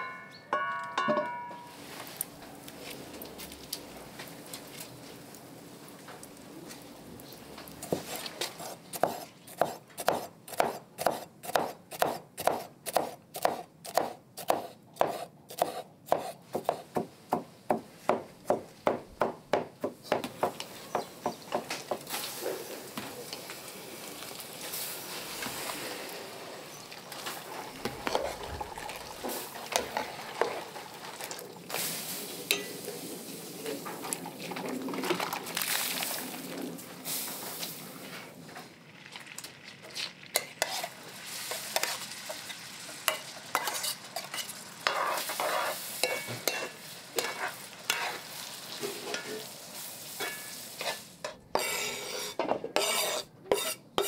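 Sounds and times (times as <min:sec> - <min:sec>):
utensil working food rhythmically: 0:02.9 - 0:25.8, 0:26.7 - 0:32.8, 0:39.0 - 0:54.0.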